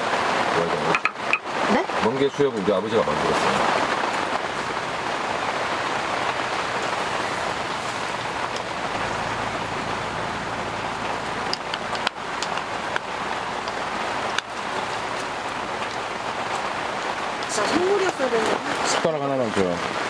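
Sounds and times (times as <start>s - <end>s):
rain pouring on a tent: 0.0s - 20.0s.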